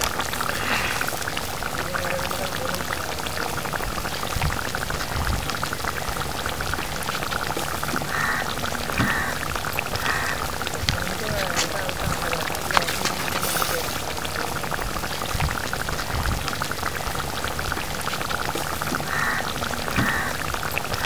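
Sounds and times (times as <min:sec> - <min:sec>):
curry bubbling in a pan: 0:00.0 - 0:21.0.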